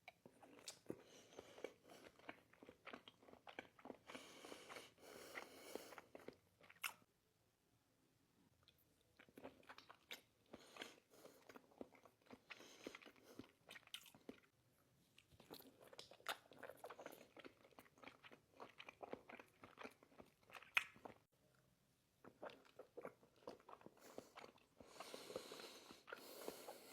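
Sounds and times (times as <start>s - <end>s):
person chewing: 0.0s - 7.0s, 8.6s - 14.5s, 15.2s - 21.3s, 22.2s - 26.9s.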